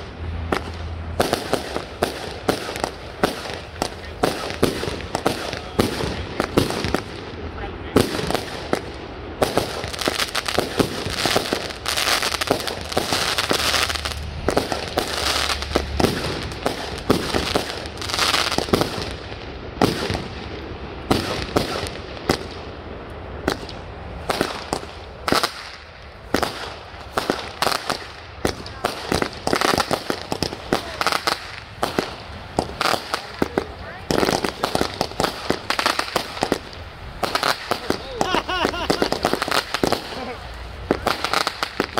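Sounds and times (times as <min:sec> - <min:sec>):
fireworks bangs and pops: 0:00.0 - 0:41.9
fireworks hissing crackle: 0:00.0 - 0:41.9.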